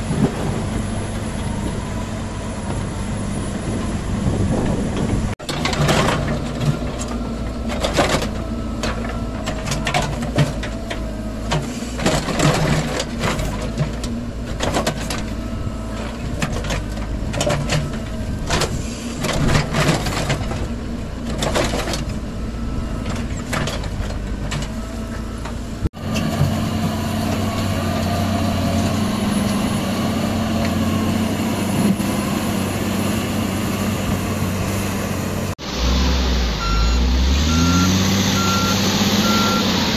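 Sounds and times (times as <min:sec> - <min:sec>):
diesel engine droning: 0:00.0 - 0:39.9
heavy machinery engines: 0:00.0 - 0:39.9.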